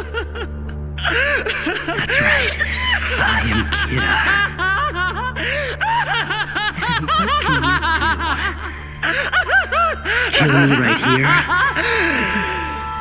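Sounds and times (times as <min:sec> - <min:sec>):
man laughing maniacally: 0:00.0 - 0:12.9
low music drone: 0:00.0 - 0:13.0.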